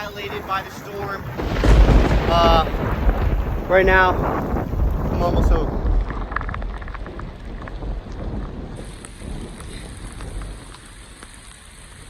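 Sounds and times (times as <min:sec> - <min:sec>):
falling rain: 0:00.0 - 0:12.0
raindrop ticks: 0:00.0 - 0:12.0
wind rumbling on microphone: 0:00.0 - 0:12.0.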